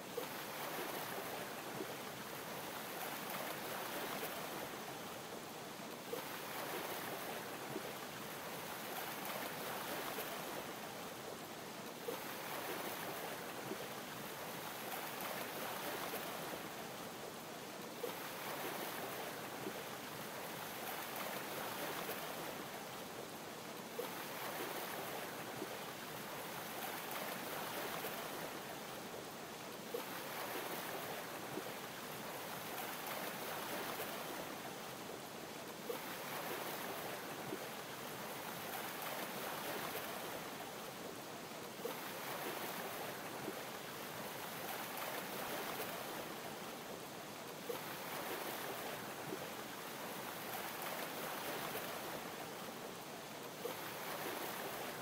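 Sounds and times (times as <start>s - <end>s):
water lapping: 0.1s - 5.4s, 6.0s - 55.0s.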